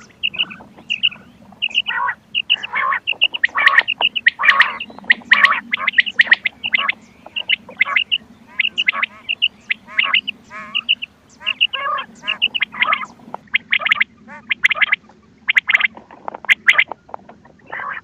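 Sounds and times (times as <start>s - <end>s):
quail calls: 0.0s - 18.0s
steady low hum: 0.0s - 18.0s.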